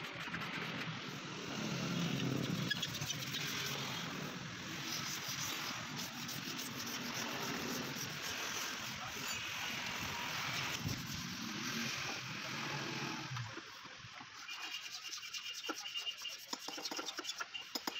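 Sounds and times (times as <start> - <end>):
road traffic: 0.1 - 16.5.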